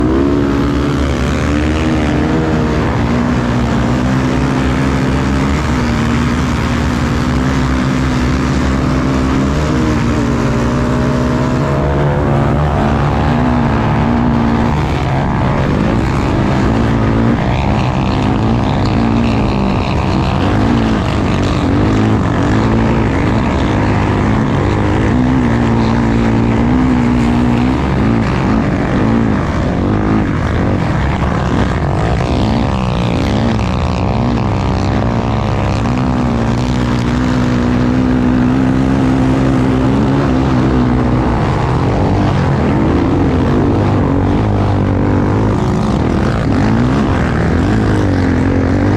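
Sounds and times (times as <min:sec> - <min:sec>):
racing engine revving: 0:00.0 - 0:48.9.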